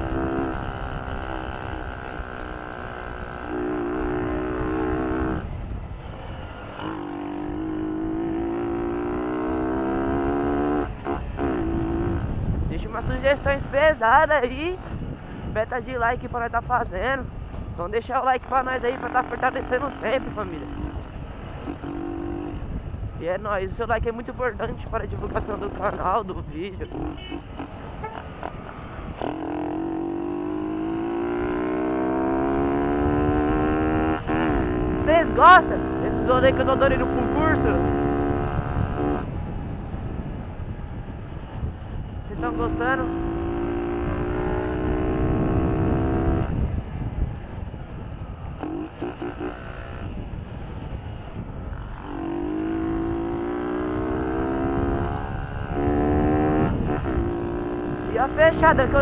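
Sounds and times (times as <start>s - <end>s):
motorcycle engine accelerating: 0.0s - 14.0s, 18.6s - 22.8s, 25.0s - 47.2s, 48.5s - 50.4s, 51.6s - 59.0s
wind and road rumble: 0.0s - 59.0s.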